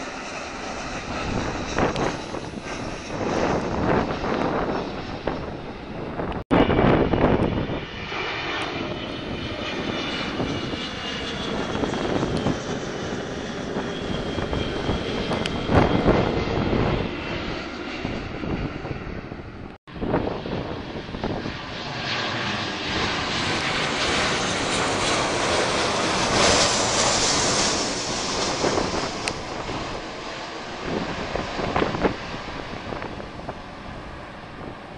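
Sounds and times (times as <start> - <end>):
jet airliner passing overhead: 0.0 - 34.9.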